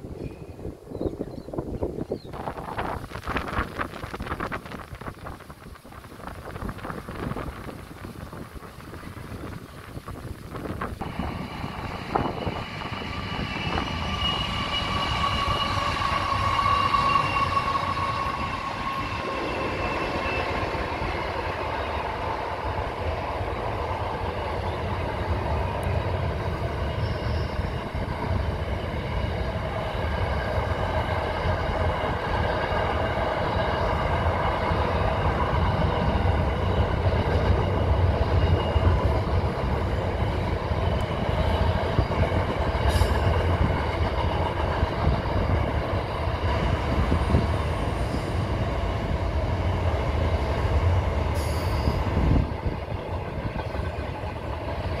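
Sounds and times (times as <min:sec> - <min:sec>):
freight train rumbling on bridge: 0:00.0 - 0:55.0.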